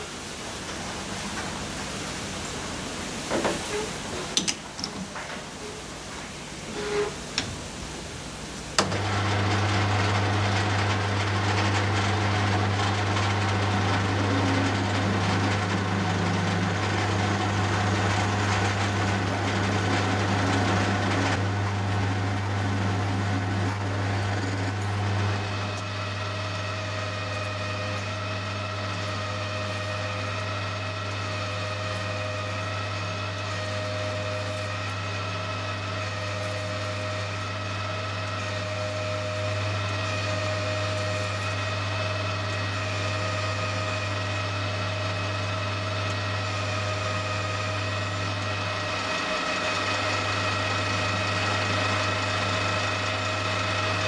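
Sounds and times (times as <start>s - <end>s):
lathe humming: 6.4s - 54.0s
boring bar whining: 6.6s - 8.1s, 8.7s - 54.0s
drill feeding into metal: 8.8s - 54.0s.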